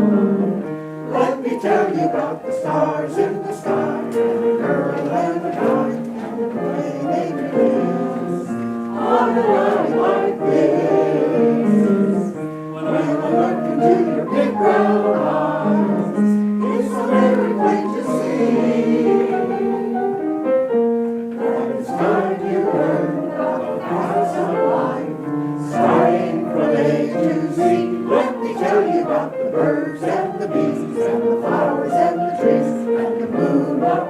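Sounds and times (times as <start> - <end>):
choir singing in parts: 0.0 - 34.0.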